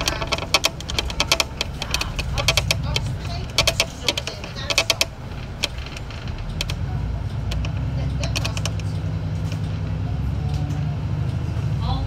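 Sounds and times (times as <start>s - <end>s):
sharp clicking and rattling: 0.0s - 9.8s
bus diesel engine running: 0.0s - 12.0s.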